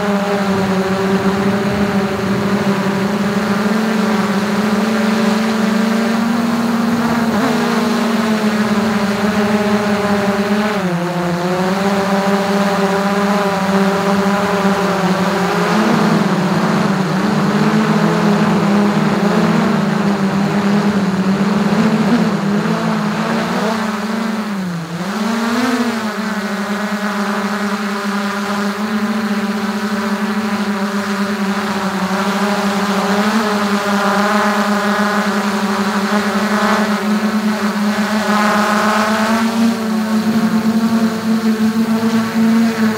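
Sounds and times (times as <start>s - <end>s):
drone propellers whining: 0.0s - 42.9s.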